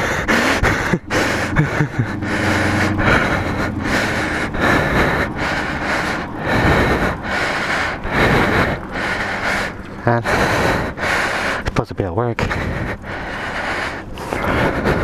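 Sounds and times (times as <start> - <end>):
man breathing hard: 0.0 - 11.8, 12.4 - 15.0.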